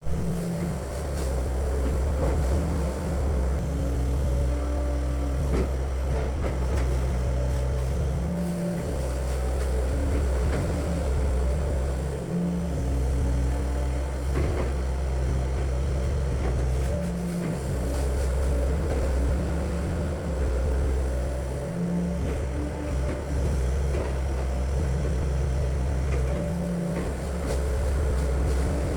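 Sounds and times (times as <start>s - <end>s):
excavator engine running: 0.0s - 28.9s.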